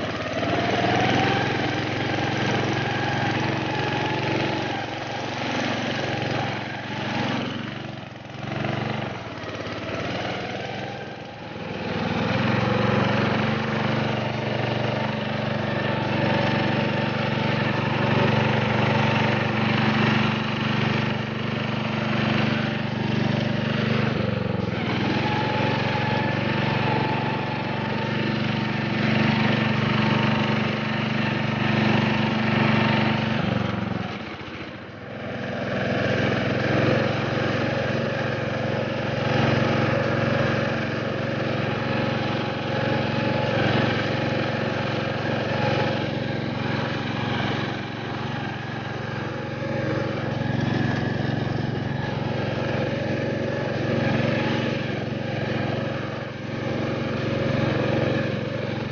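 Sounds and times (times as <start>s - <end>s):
lawn tractor engine running: 0.0s - 58.9s.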